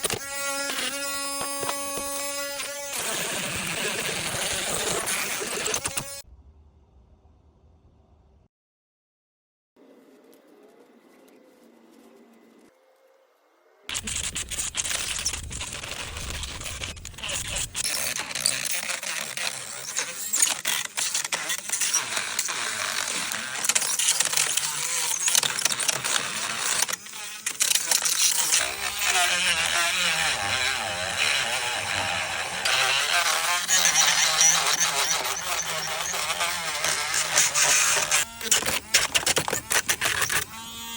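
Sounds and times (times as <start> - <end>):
rotary tool grinding wood: 0.0 - 6.2, 13.9 - 40.9.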